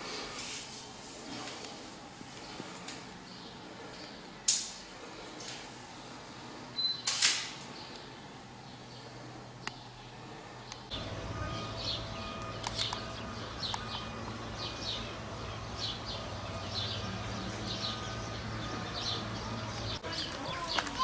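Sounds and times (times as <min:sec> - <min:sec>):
steady low hum: 0:00.0 - 0:20.6
small birds chirping: 0:02.4 - 0:21.0.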